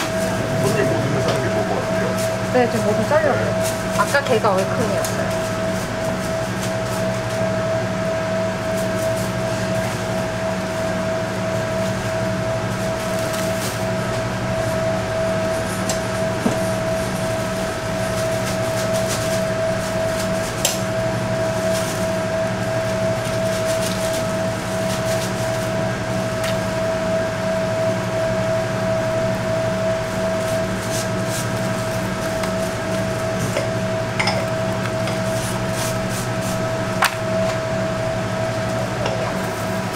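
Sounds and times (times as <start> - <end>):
machine hum with high whine: 0.0 - 39.9.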